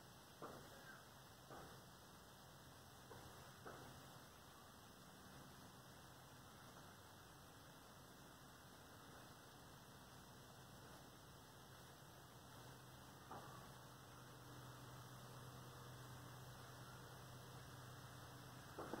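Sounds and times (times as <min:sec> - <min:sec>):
faint low hum: 0:00.0 - 0:19.0
light hiss: 0:00.0 - 0:19.0.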